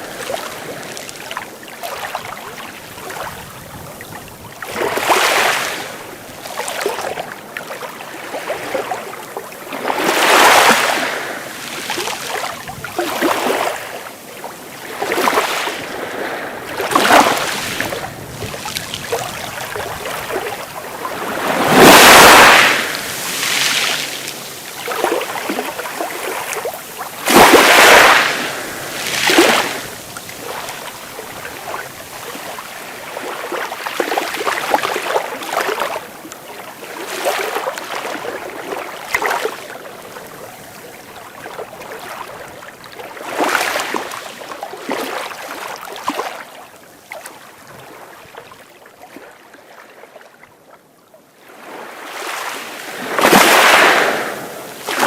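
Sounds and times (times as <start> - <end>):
sea waves breaking: 0.0 - 46.5, 51.4 - 55.0.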